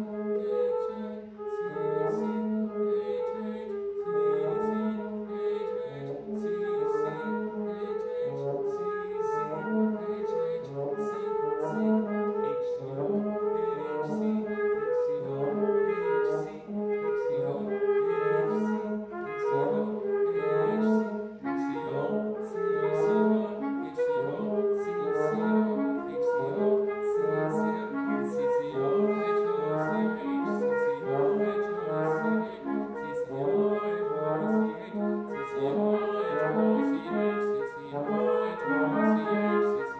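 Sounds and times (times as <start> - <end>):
bass clarinet: 0.0 - 39.9
trombone: 0.0 - 39.9
trumpet: 0.0 - 39.9.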